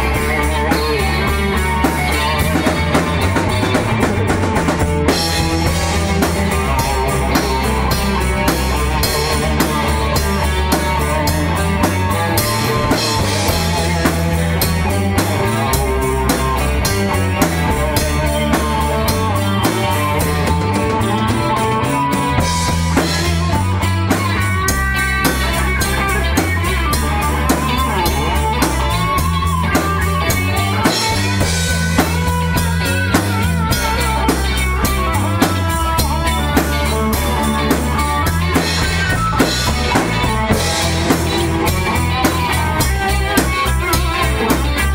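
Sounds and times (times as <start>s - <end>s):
rock music: 0.0s - 44.9s.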